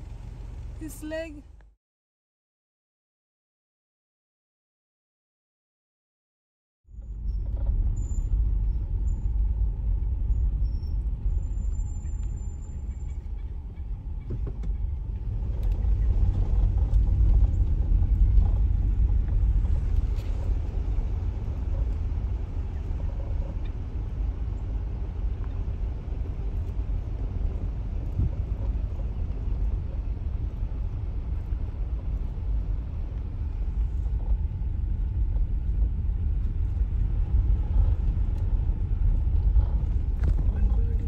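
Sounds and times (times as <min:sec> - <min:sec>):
car driving on gravel road: 0:00.0 - 0:01.6, 0:07.0 - 0:41.0
tyre and engine rumble: 0:00.0 - 0:01.7, 0:06.9 - 0:41.0.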